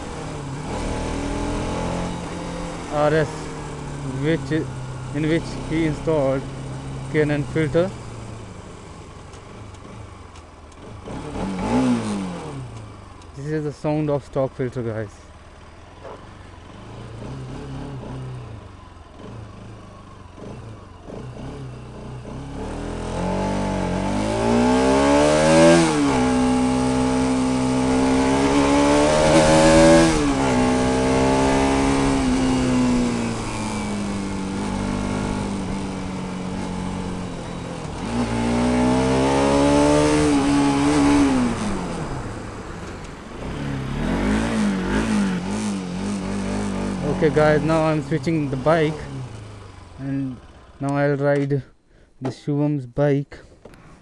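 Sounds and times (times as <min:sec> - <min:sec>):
motorcycle engine accelerating: 0:00.0 - 0:51.5, 0:53.6 - 0:54.0.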